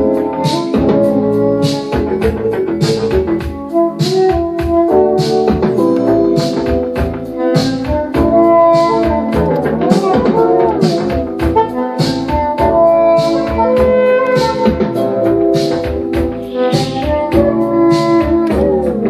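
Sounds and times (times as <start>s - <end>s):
brass jazz music on vinyl: 0.0s - 19.0s.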